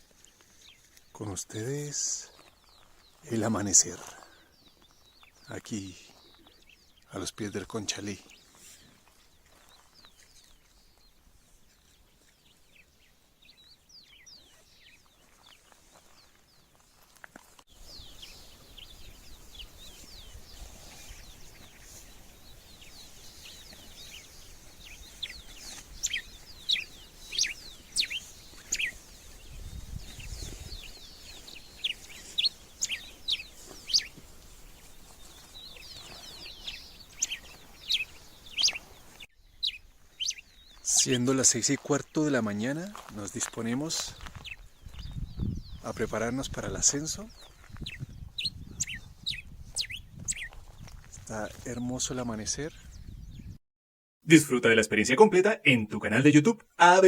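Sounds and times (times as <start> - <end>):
small birds chirping: 0.0 - 53.6.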